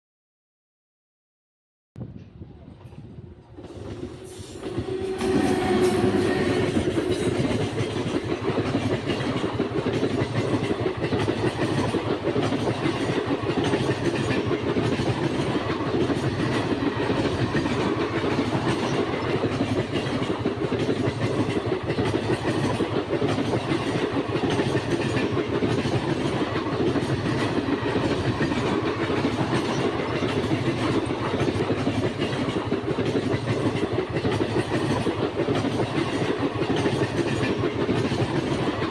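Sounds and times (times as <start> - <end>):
train wheels rumbling on rails: 2.1 - 38.9.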